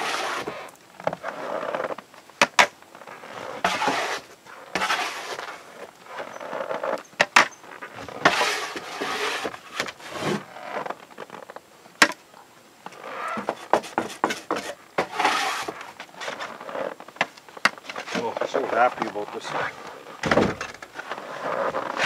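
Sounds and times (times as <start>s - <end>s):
scraping against wood: 0.0s - 11.4s, 12.9s - 22.0s.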